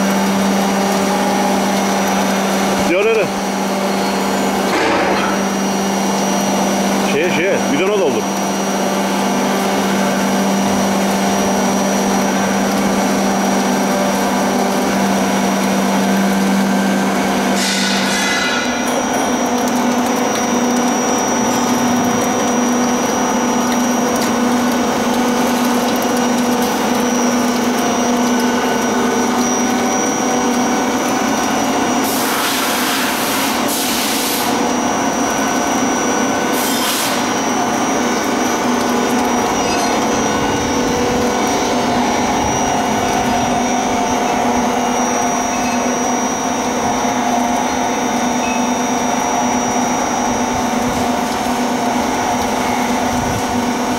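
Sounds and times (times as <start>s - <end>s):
oil press machine hum: 0.0s - 53.9s.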